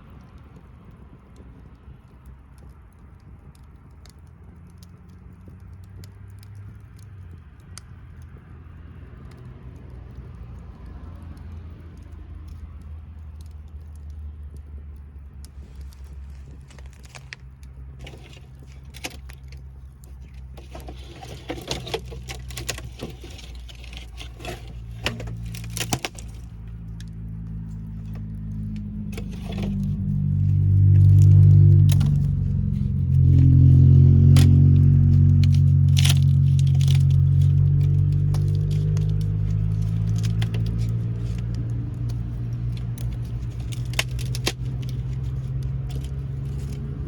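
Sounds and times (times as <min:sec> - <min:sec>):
low engine-like hum: 0:00.0 - 0:47.0
sharp clicks and rattles: 0:00.2 - 0:47.0.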